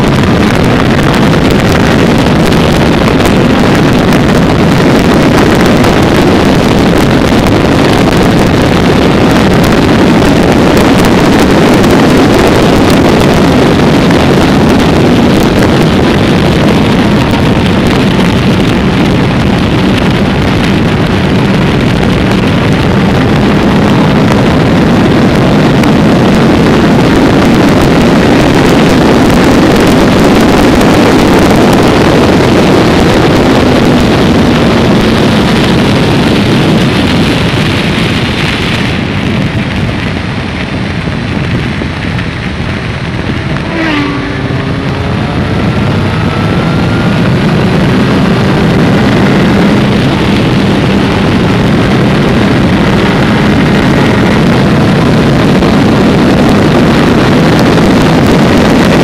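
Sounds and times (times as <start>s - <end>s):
motorcycle engine: 0.0s - 59.0s
wind rush on microphone: 0.0s - 59.0s.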